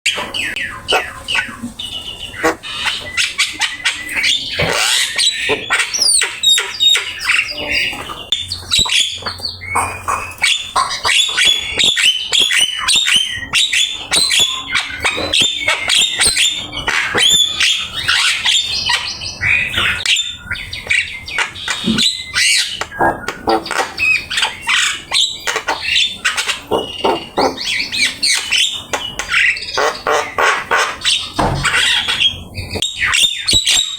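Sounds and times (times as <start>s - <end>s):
bird chattering and whistling: 0.1s - 33.9s.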